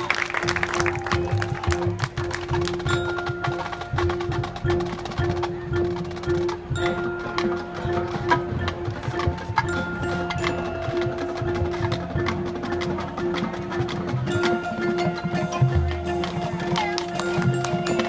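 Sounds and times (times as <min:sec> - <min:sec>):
marching band percussion: 0:00.0 - 0:18.0
ringing metallic notes: 0:02.8 - 0:18.0.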